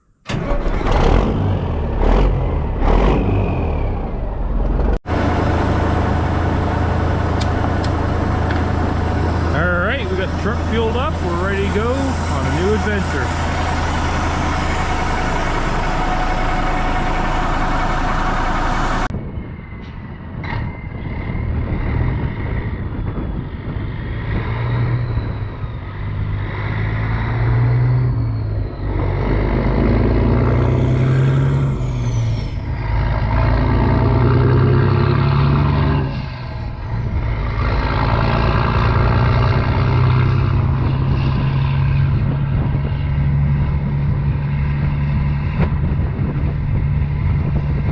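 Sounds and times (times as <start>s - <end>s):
diesel truck engine revving: 0.2s - 47.9s.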